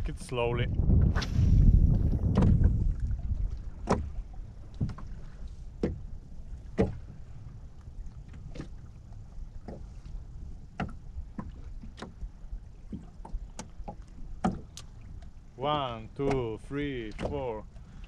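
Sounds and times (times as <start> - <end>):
low rumble of water and wind: 0.0 - 18.0
waves slapping against boat hull: 0.0 - 18.0.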